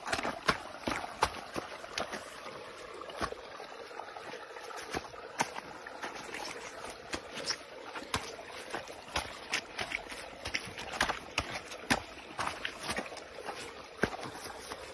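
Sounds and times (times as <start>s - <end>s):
footsteps on grass: 0.0s - 14.9s.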